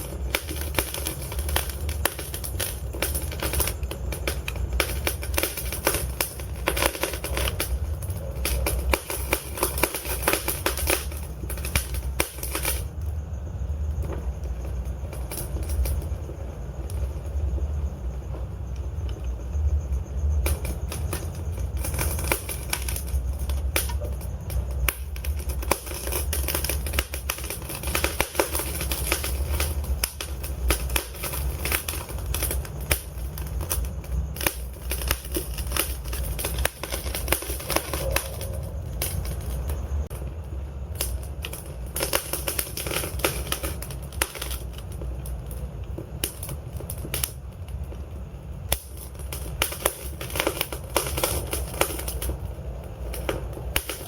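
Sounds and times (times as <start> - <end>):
fireplace logs crackling and popping: 0.0 - 54.0
low rumble of flames: 0.0 - 54.0.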